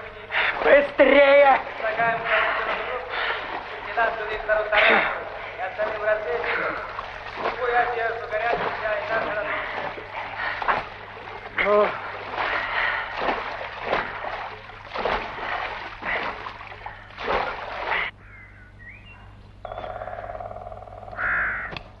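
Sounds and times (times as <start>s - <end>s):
splashing through swamp water: 0.0s - 18.2s.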